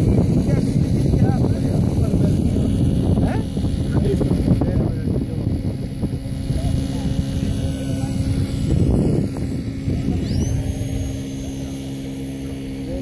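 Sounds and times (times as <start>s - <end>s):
model plane electric motors: 0.0s - 13.0s.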